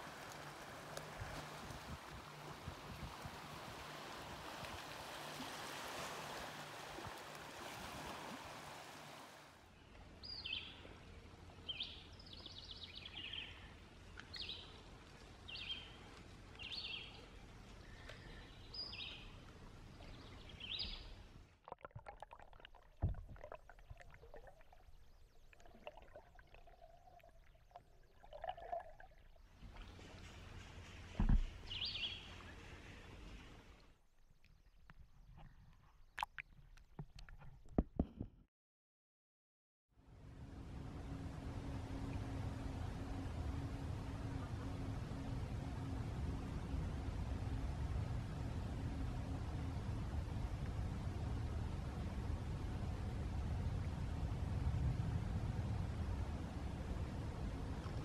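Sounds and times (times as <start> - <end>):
river water: 0.0 - 37.5, 40.1 - 58.0
wind: 0.0 - 38.4, 39.9 - 58.0.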